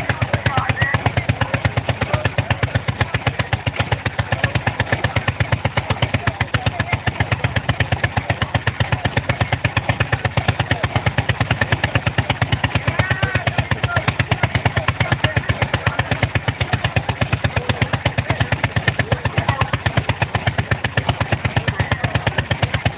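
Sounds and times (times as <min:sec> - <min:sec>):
chainsaw engine running: 0:00.0 - 0:22.9.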